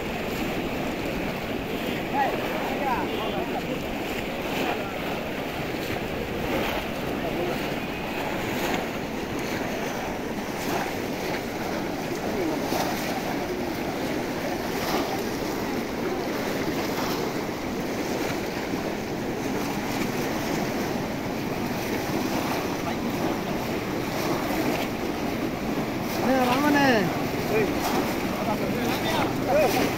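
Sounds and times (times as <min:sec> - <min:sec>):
crowd hubbub: 0:00.0 - 0:29.9
people splashing through water: 0:00.0 - 0:29.9.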